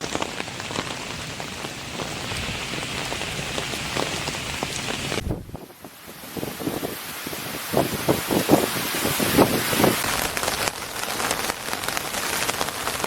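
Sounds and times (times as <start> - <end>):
rain drops tapping on a surface: 0.0 - 7.0, 7.8 - 13.0.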